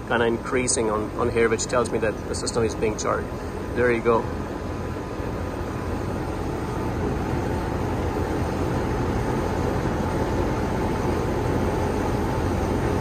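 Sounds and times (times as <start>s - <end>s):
air conditioning unit running: 0.0s - 13.0s
faint steady whine: 0.0s - 13.0s.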